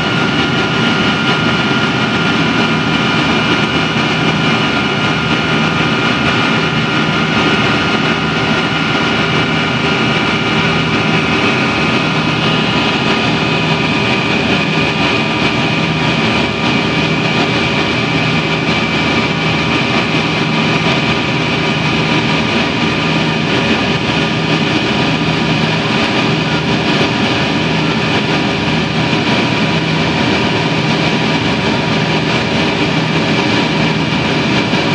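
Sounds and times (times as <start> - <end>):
airliner cabin engine noise: 0.0 - 34.9
whining engine tones: 0.0 - 34.9.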